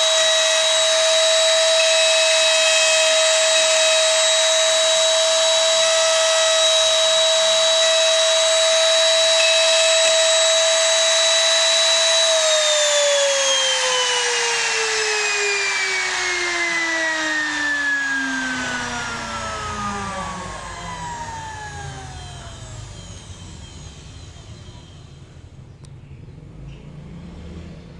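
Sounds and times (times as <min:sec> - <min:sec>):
cnc machine motor whining: 0:00.0 - 0:25.8
motor spinning down: 0:00.0 - 0:25.8.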